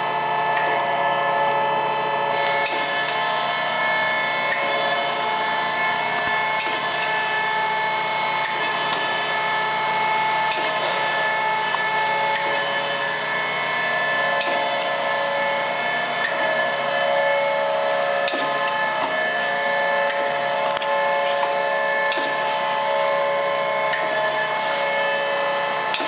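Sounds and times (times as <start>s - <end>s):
surface grinder whine: 0.0s - 26.0s.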